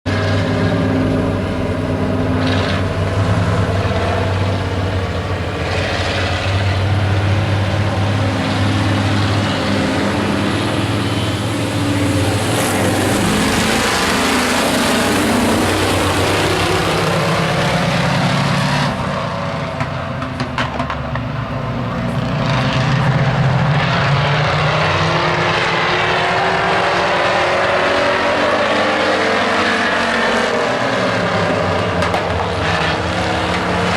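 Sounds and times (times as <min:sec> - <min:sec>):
race truck engines passing: 0:00.0 - 0:33.9.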